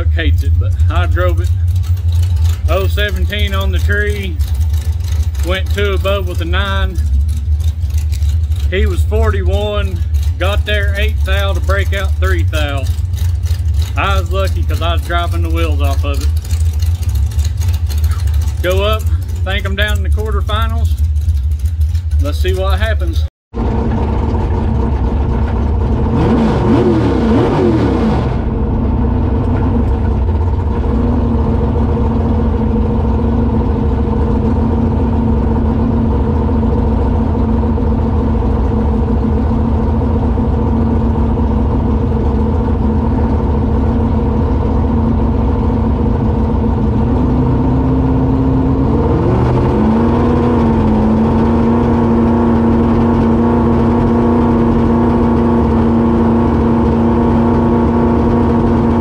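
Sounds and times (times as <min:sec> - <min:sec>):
truck engine idling: 0:00.0 - 0:26.3, 0:28.4 - 0:59.0.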